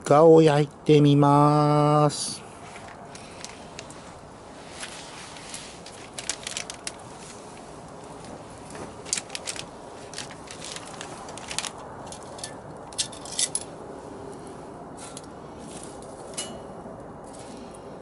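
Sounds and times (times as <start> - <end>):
wood fire popping and crackling: 2.6 - 18.0.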